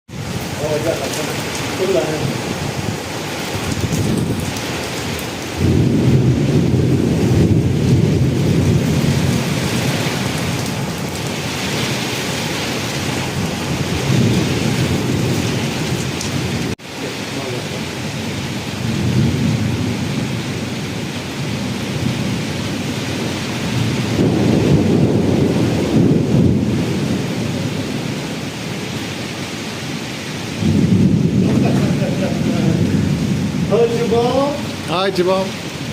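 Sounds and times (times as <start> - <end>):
thunder rumbling: 0.1 - 29.0, 30.4 - 35.9
steady rain: 0.1 - 35.9.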